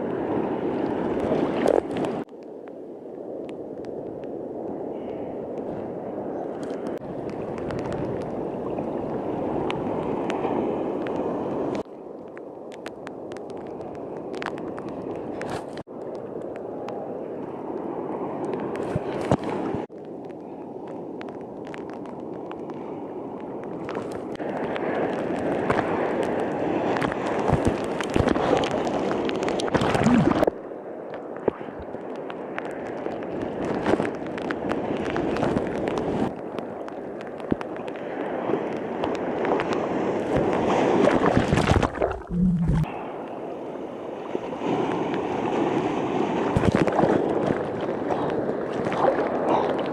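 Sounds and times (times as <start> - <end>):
water splashes: 0.0 - 2.6, 3.3 - 20.2, 20.8 - 49.9
surf sloshing and churning water: 0.0 - 49.9.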